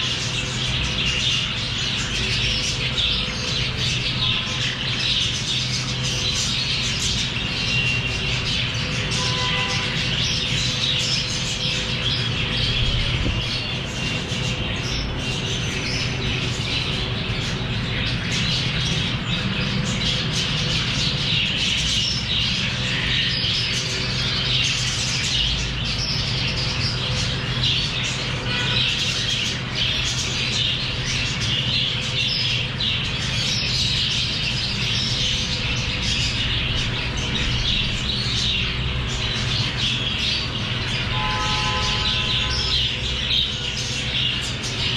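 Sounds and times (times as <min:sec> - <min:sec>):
parrots chattering and squawking: 0:00.0 - 0:44.9.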